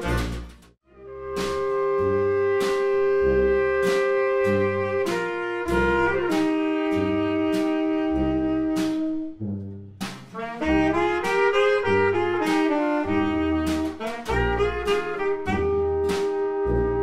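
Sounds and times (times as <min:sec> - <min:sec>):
jazz band playing: 0:00.0 - 0:17.0
sousaphone bass notes: 0:00.0 - 0:17.0.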